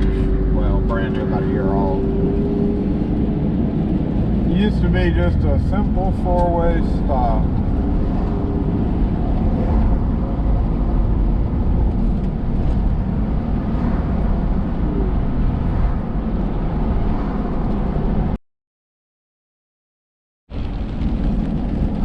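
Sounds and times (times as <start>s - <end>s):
road and engine rumble in car: 0.0s - 18.4s, 20.5s - 22.0s.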